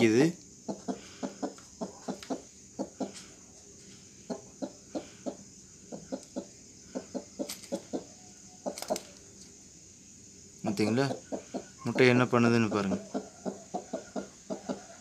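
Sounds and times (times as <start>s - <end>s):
hen clucking: 0.0s - 9.2s, 10.7s - 15.0s.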